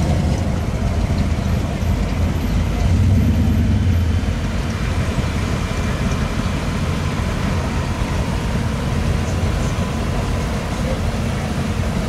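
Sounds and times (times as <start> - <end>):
classic car engines running: 0.0 - 12.0
hot rod engine rolling past: 0.0 - 12.0.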